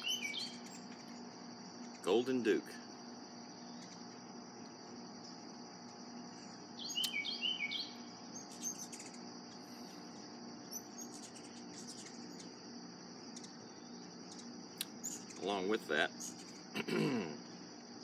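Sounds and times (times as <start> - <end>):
air conditioner hum: 0.0 - 18.0
insects chirring: 0.0 - 18.0.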